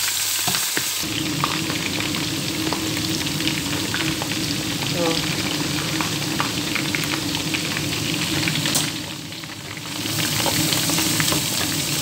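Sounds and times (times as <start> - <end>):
food deep-frying in sizzling oil: 0.0 - 12.0.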